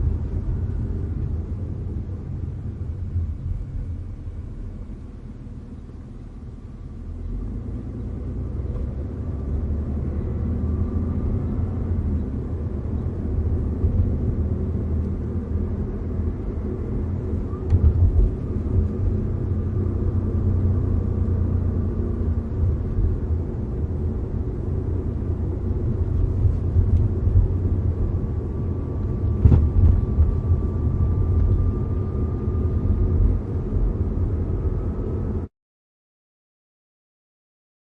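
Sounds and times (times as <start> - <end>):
car road and engine rumble: 0.0 - 35.5.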